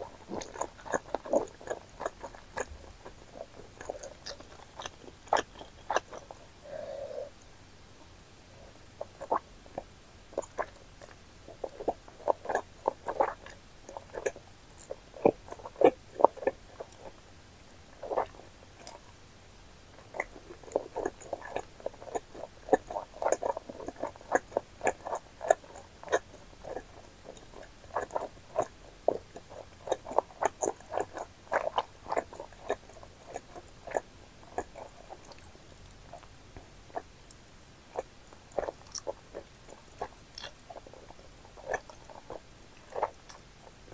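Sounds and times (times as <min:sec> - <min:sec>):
chewing noodles: 0:00.0 - 0:07.3, 0:09.0 - 0:17.2, 0:17.9 - 0:19.2, 0:19.9 - 0:43.9.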